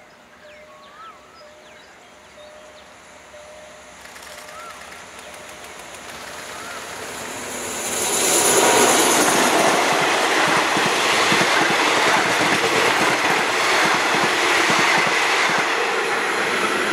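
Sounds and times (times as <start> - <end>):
train wheels rumbling on rails: 3.4 - 16.9.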